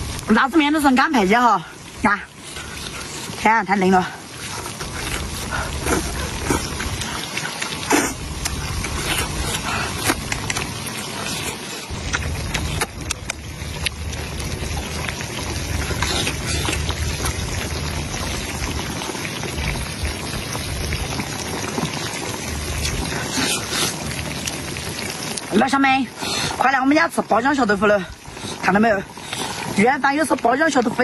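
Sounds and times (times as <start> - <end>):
oil popping: 0.0 - 31.0
tofu sizzling in hot oil: 0.0 - 31.0.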